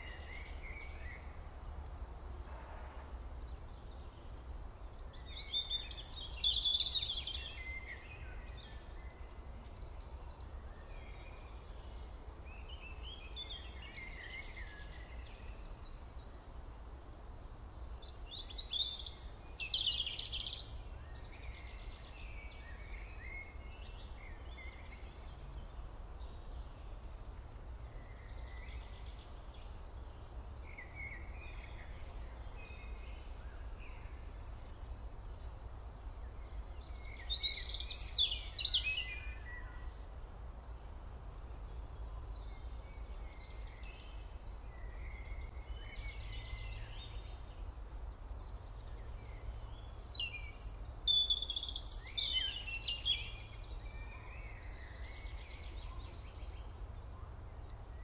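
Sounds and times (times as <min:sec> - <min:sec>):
birds singing: 0:03.4 - 0:58.0.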